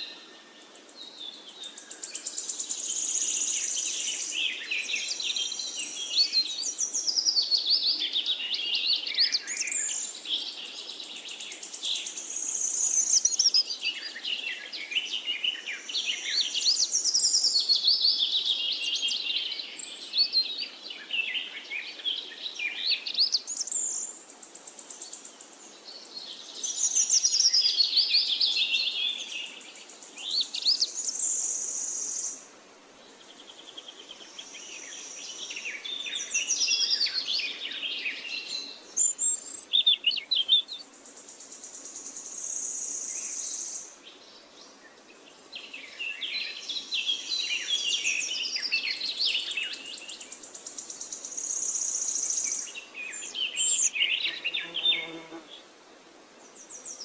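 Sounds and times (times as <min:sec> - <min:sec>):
songbirds chirping and singing: 0:00.0 - 0:32.4, 0:33.1 - 0:55.7.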